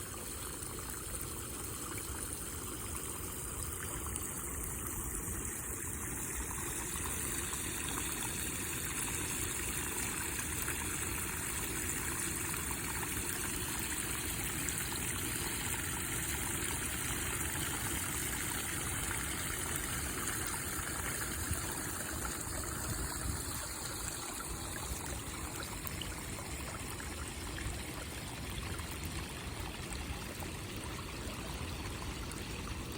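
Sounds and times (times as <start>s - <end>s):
stream babbling over stones: 0.0s - 32.9s.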